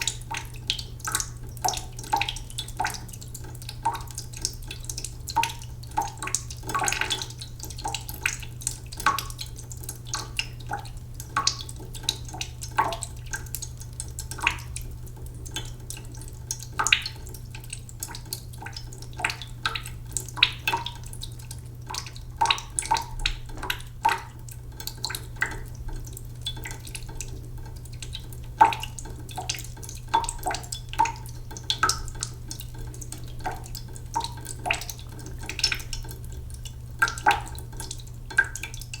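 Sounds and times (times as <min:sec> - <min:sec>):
water drops plopping into pot: 0:00.0 - 0:39.0.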